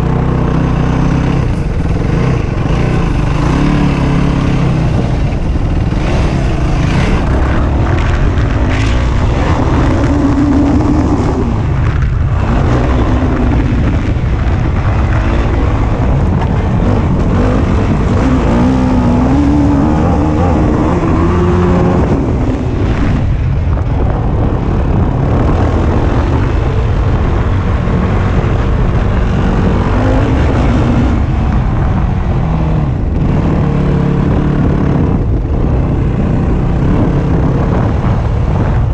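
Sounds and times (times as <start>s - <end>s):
quad engine revving: 0.0s - 38.8s
wind rumble on microphone: 0.0s - 38.9s.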